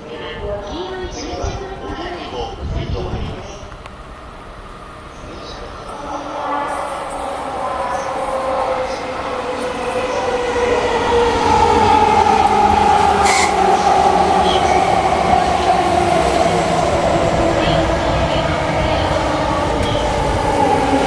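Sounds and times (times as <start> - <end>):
train braking into platform: 0.0 - 21.0.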